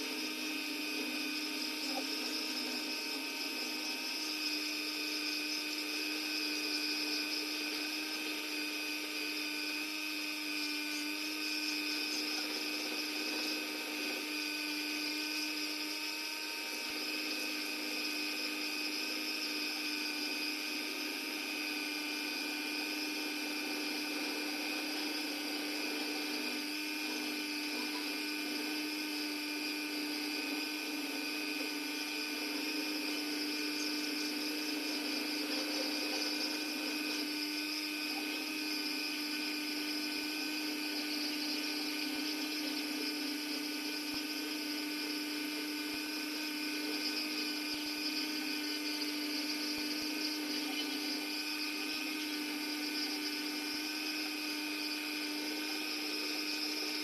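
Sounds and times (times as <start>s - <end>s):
rotary tool grinding wood: 0.0s - 57.0s.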